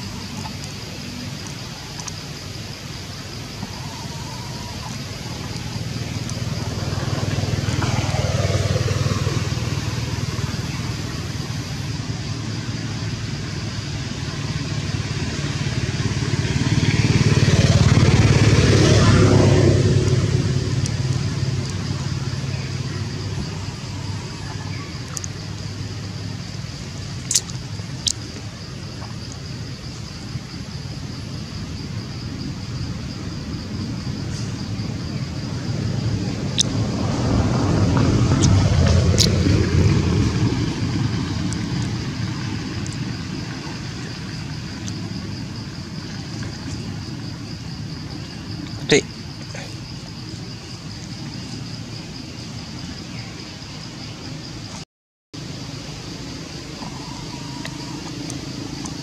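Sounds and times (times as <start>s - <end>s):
motor vehicles passing: 2.8s - 54.8s, 55.4s - 59.0s.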